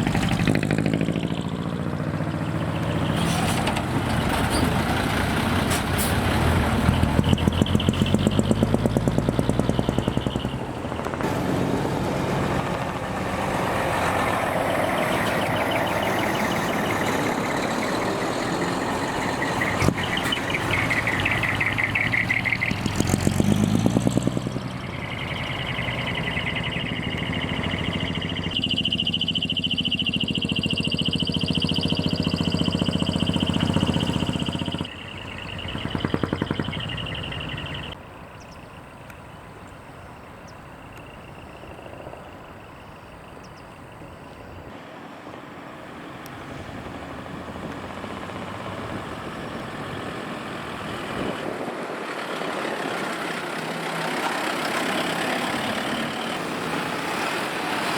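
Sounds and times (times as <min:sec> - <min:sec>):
diesel truck engines revving: 0:00.0 - 0:57.9.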